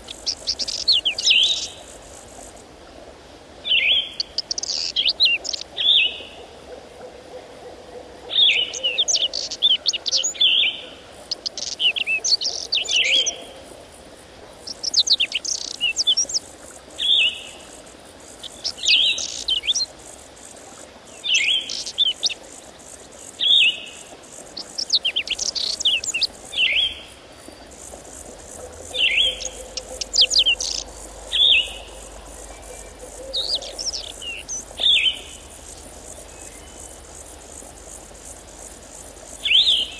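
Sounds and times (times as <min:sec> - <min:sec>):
songbird singing: 0:00.0 - 0:02.2, 0:03.6 - 0:06.5, 0:08.2 - 0:13.6, 0:14.6 - 0:20.0, 0:21.1 - 0:39.9.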